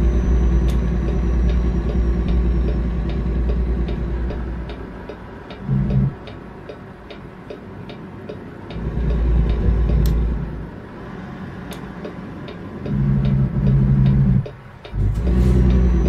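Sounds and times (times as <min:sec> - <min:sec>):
truck engine rumble: 0:00.0 - 0:16.0.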